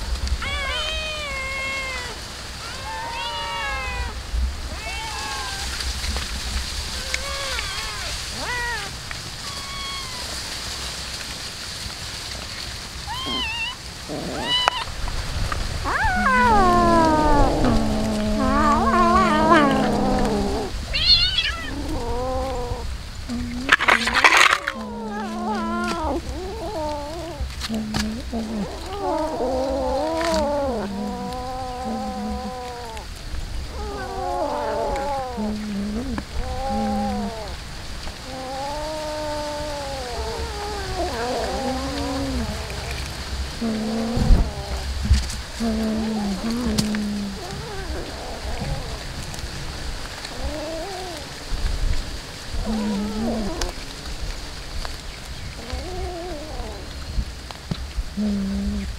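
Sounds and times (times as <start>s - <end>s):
cats chewing: 0.3s - 58.9s
cat meowing: 0.4s - 5.9s, 6.9s - 10.5s, 13.0s - 14.9s, 15.8s - 37.6s, 38.2s - 45.0s, 45.6s - 49.3s, 50.2s - 51.4s, 52.6s - 53.9s, 55.6s - 57.0s.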